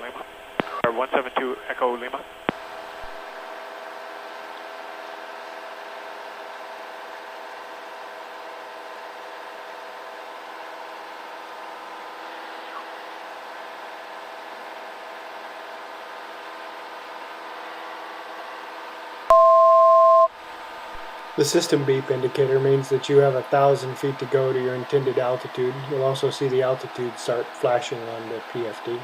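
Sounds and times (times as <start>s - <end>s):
airplane engine and propeller drone: 0.0s - 19.2s, 20.4s - 29.0s.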